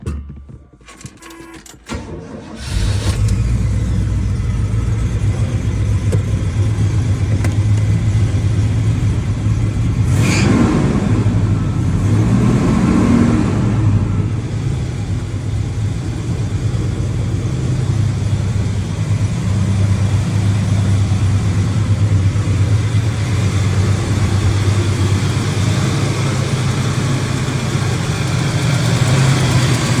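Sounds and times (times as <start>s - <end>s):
car engine starting and idling: 0.8s - 30.0s.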